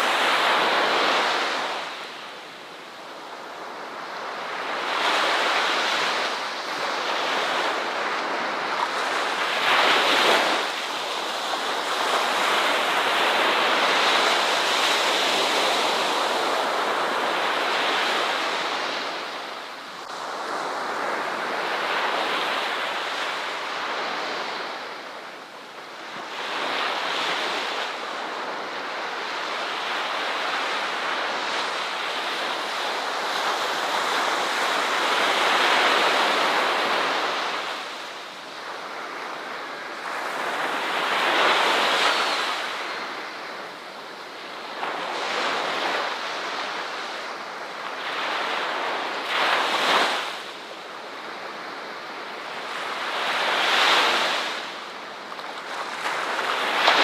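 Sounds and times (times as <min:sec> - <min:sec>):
ocean waves breaking: 0:03.6 - 0:57.0.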